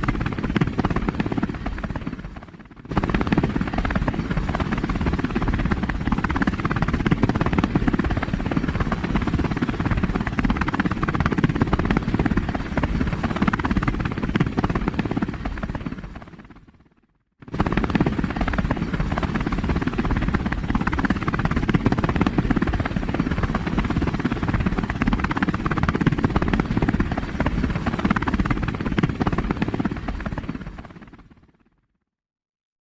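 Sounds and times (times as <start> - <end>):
helicopter rotor chopping: 0.0 - 16.7, 17.4 - 31.4.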